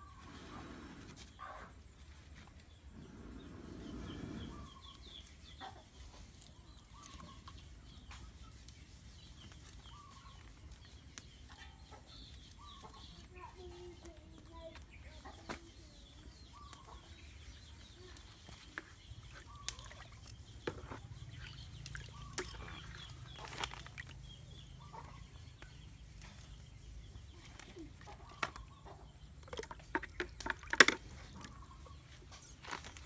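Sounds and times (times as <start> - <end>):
chickens clucking: 3.8 - 30.4.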